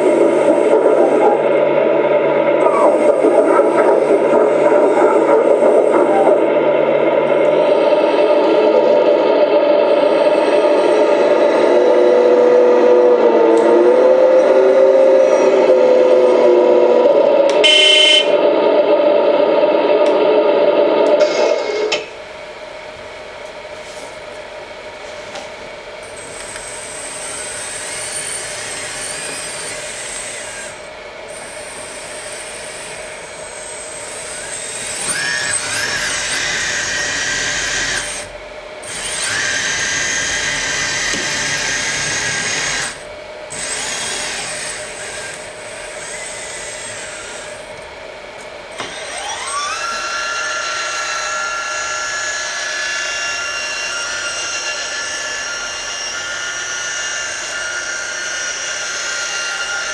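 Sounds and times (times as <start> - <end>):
hydraulic pump whining: 0.0 - 59.9.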